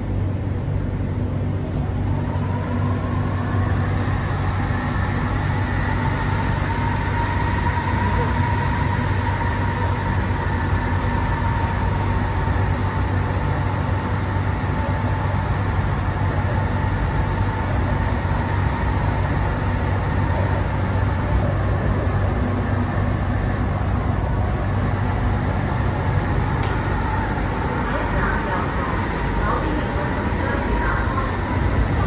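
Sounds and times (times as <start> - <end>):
faint steady whine: 0.0 - 32.0
train wheels rumbling on rail: 0.0 - 32.0.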